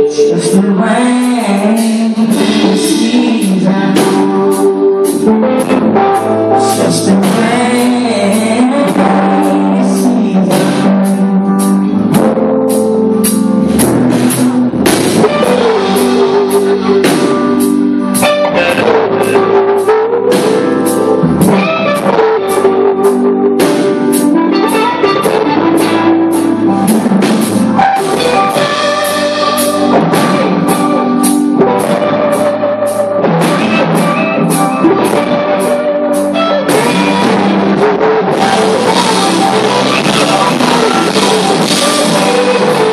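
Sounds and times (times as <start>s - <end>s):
drum kit beat: 0.0s - 42.9s
electric guitar lead line: 0.0s - 42.9s.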